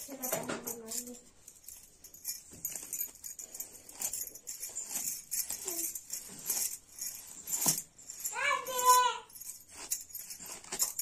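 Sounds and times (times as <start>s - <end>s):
bangles jingling: 0.0s - 11.0s
comb drawn through hair: 1.7s - 11.0s.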